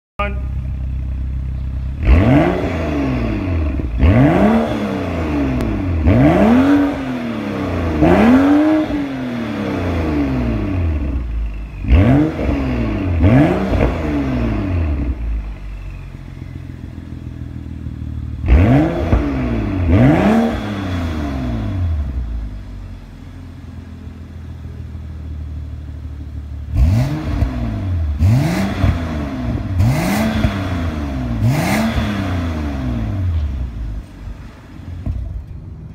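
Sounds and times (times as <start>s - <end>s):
car engine revving from idle: 0.8s - 35.1s.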